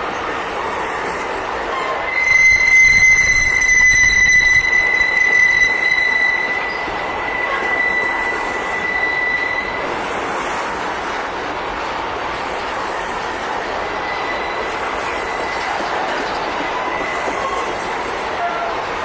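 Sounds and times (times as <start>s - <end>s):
wheel flanges squealing on rail: 0.0s - 11.2s, 12.8s - 19.0s.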